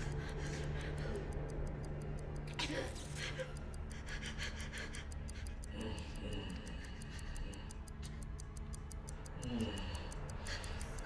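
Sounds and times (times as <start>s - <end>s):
low droning music: 0.0s - 11.0s
rapid stopwatch ticking: 0.0s - 11.0s.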